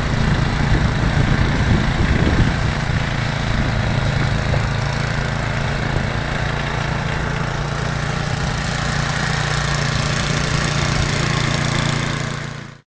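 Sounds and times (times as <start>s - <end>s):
engine running steadily: 0.0s - 12.8s.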